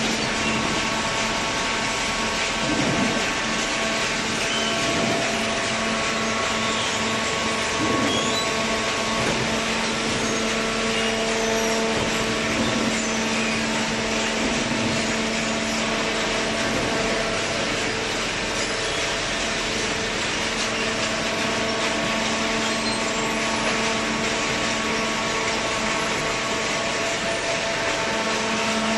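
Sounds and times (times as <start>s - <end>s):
baler machine hum: 0.0s - 28.9s.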